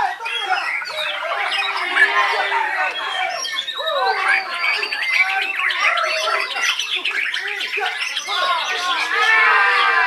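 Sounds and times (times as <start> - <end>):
several birds singing: 0.0 - 10.0.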